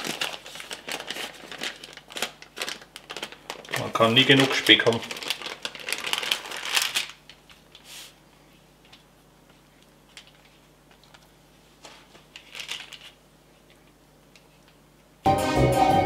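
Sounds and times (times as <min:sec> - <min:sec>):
baking paper crinkling: 0:00.0 - 0:14.8.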